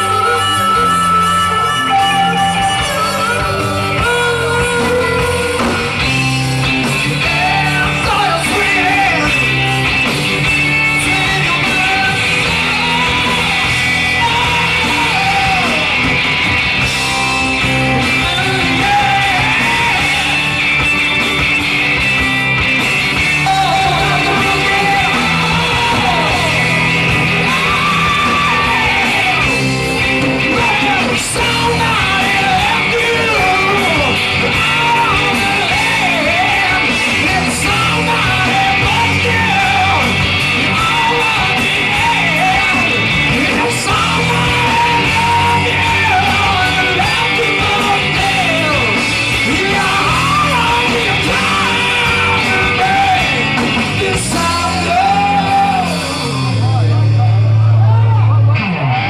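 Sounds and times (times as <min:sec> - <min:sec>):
man singing: 0:00.0 - 0:16.2, 0:17.2 - 0:21.2, 0:23.3 - 0:57.4
live rock band playing: 0:00.0 - 0:59.0.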